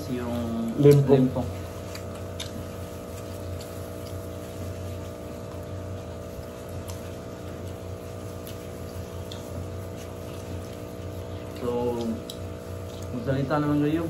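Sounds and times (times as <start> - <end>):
faint clicks and rustles eating: 0.0 - 14.0
low machine hum: 0.0 - 14.0.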